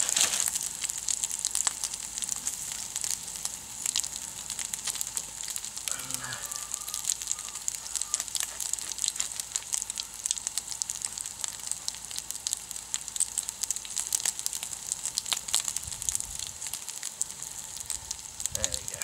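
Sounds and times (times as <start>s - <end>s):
bacon sizzling in a pan: 0.0s - 19.0s
wood fire crackling and popping: 0.0s - 19.0s.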